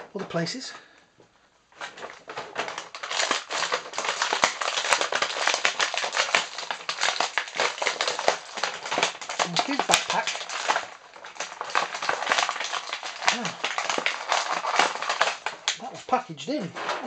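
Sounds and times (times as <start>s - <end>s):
plastic packaging crinkling: 1.7s - 16.8s.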